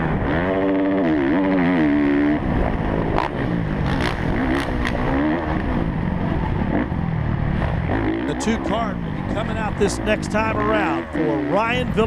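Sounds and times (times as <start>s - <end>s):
motocross engine revving: 0.0s - 12.0s.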